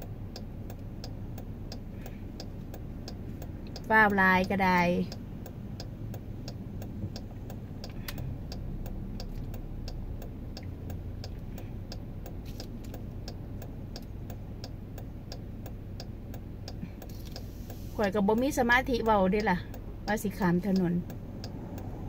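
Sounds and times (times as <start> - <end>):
car cabin hum: 0.0 - 22.0
turn signal clicking: 0.0 - 22.0.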